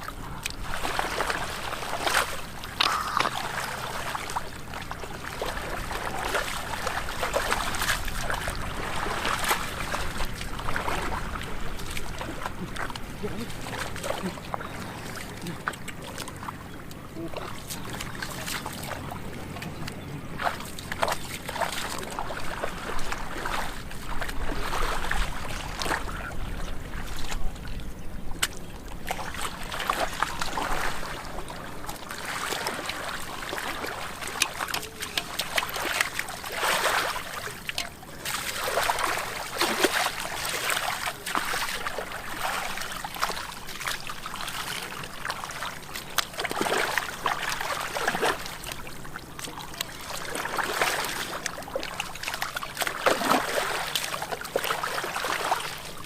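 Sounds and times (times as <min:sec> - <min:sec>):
hands splashing in muddy water: 0:00.4 - 0:26.3, 0:28.4 - 0:56.0.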